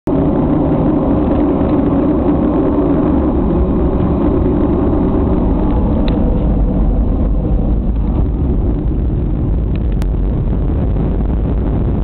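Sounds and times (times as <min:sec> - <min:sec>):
jet engine cabin rumble: 0:00.1 - 0:12.0.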